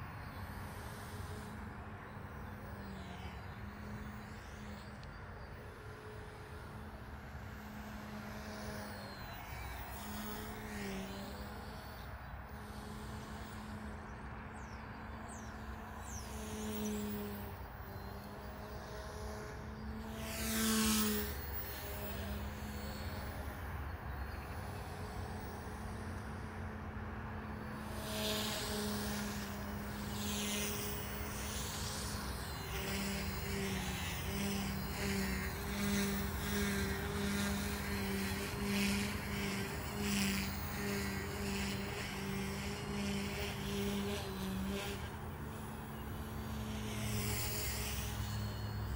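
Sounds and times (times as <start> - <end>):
high motor whines: 0.0 - 48.9
rc helicopter rotors humming: 0.0 - 48.9.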